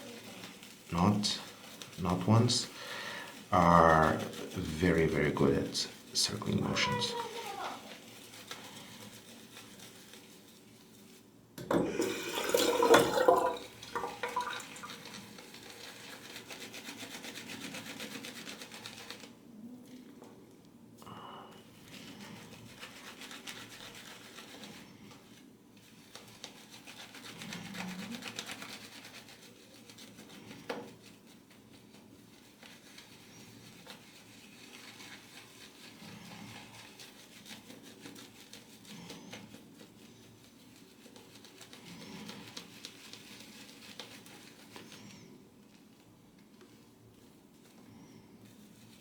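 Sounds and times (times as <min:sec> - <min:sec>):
shaving brush swirling in lather: 0:00.0 - 0:11.2, 0:11.9 - 0:19.4, 0:21.6 - 0:49.0.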